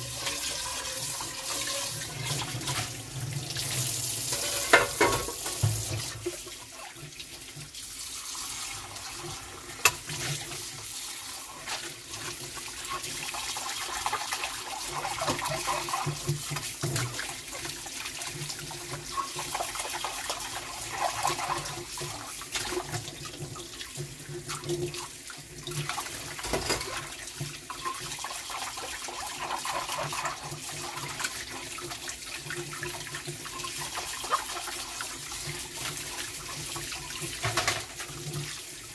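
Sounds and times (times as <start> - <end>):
faucet running into sink: 0.0 - 38.9.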